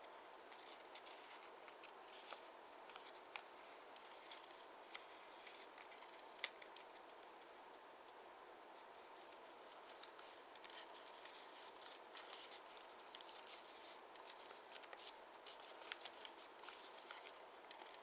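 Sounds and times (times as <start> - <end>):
steady low hiss: 0.0 - 18.0
paper rustling and crackling: 0.5 - 7.2, 9.2 - 18.0.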